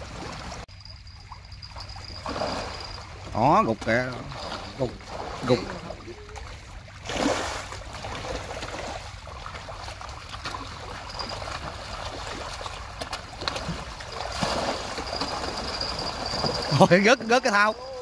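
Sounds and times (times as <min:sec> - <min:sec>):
water trickling and splashing: 0:00.0 - 0:18.0
low steady rumble: 0:00.1 - 0:18.0.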